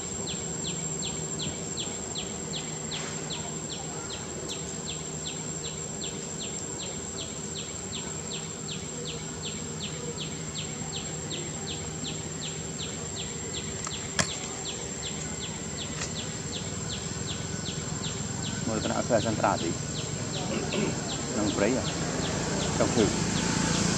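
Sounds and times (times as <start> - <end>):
insects buzzing: 0.0 - 23.9
steady high whine: 0.0 - 23.9.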